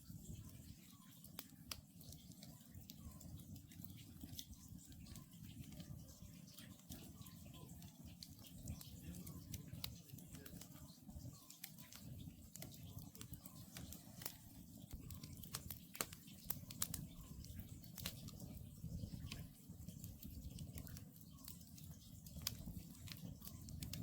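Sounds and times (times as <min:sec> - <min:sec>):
campfire crackling and popping: 0:00.1 - 0:24.0
low fire rumble: 0:00.1 - 0:24.0.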